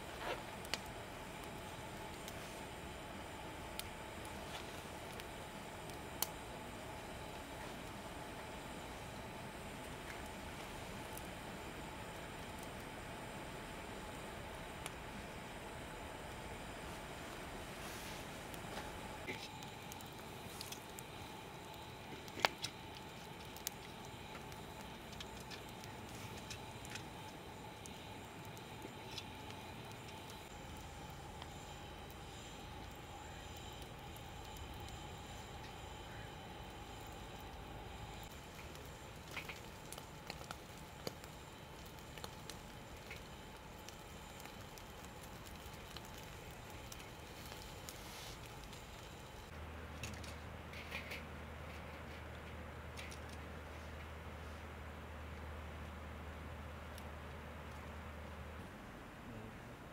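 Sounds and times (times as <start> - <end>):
low background noise: 0.0 - 59.9
wood fire crackling: 0.0 - 59.9.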